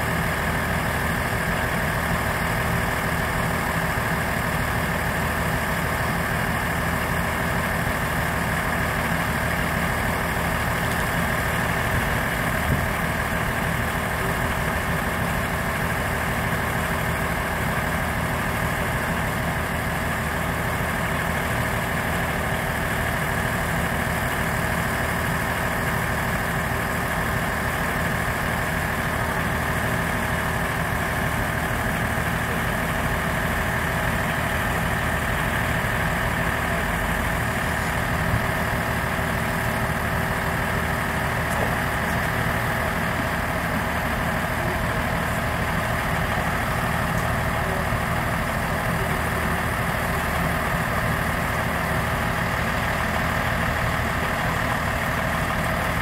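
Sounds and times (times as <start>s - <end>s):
diesel railcar engine idling: 0.0s - 56.0s.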